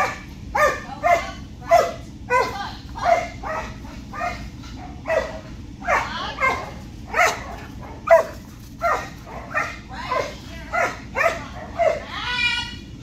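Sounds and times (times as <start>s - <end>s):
dog barking: 0.0s - 12.1s.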